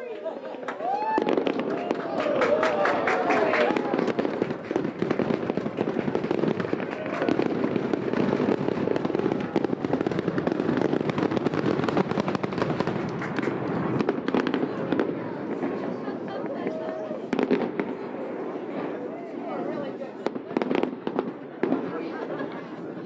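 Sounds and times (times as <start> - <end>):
fireworks popping and crackling: 0.4 - 19.0, 20.2 - 23.0.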